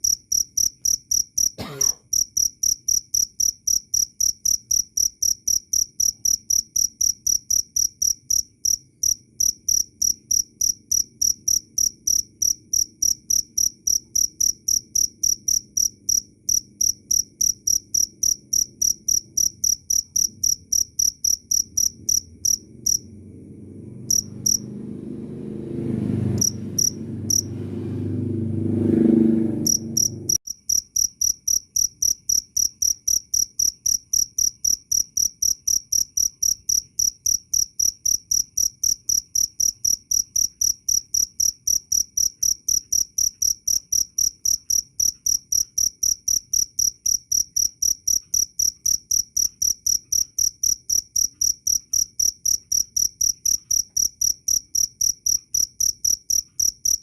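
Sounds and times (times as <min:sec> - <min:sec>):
cricket chirping: 0:00.0 - 0:24.8, 0:26.2 - 0:27.5, 0:29.6 - 0:57.0.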